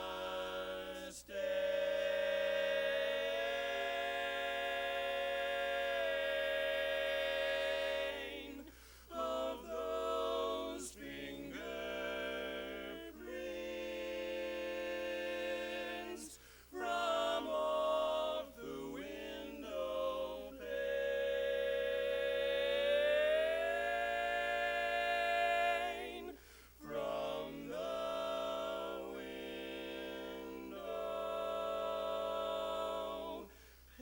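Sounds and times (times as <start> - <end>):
barbershop quartet singing: 0.0 - 34.0.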